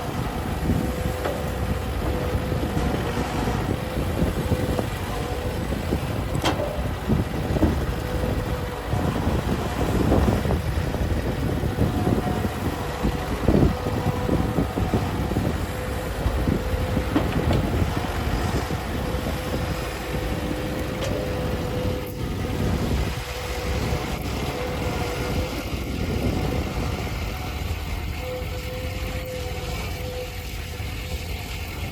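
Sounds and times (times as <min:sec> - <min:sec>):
diesel engine rumbling: 0:00.0 - 0:31.9.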